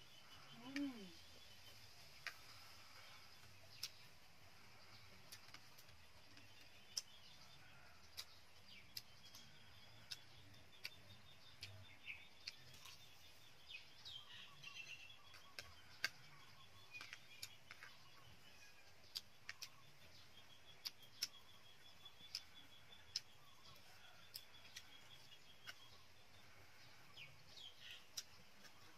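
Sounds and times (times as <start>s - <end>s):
faint bird chirps: 0.0s - 28.9s
chewing: 2.2s - 13.4s, 15.2s - 28.9s.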